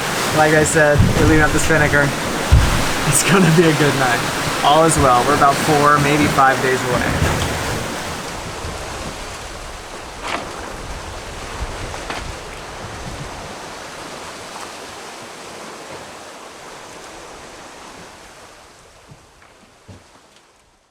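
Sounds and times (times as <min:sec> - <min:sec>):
rushing sea water: 0:00.0 - 0:20.9
wind: 0:00.0 - 0:20.9.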